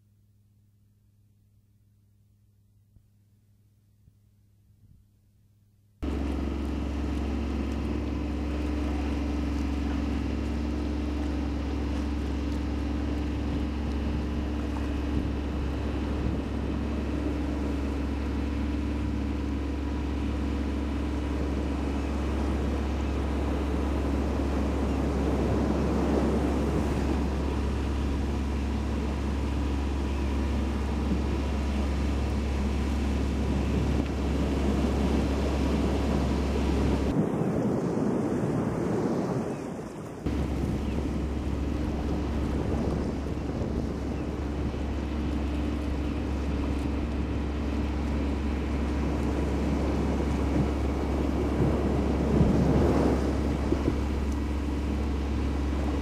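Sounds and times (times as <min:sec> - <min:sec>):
wind: 0:00.0 - 0:56.0
boat engine drone: 0:06.0 - 0:56.0
water noise: 0:06.0 - 0:56.0.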